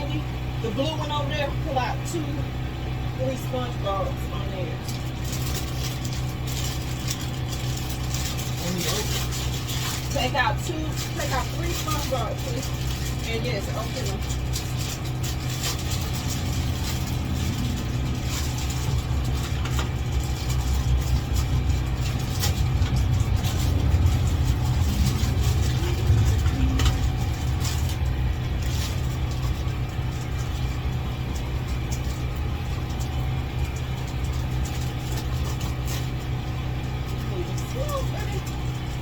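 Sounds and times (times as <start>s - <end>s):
low engine hum: 0.0s - 39.0s.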